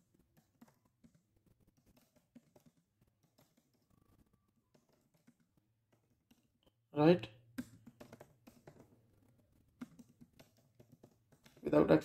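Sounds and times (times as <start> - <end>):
faint keyboard typing: 0.0 - 12.0.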